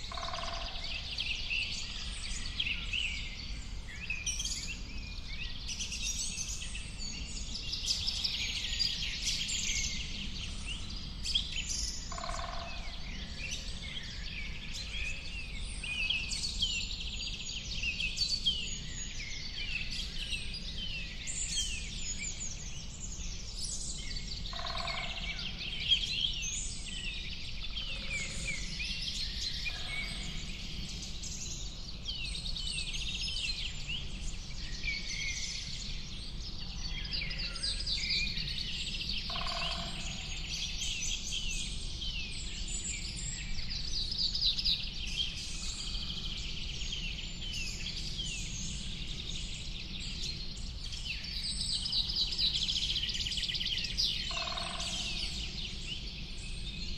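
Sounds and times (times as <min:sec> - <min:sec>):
birds chirping and singing: 0:00.0 - 0:56.9.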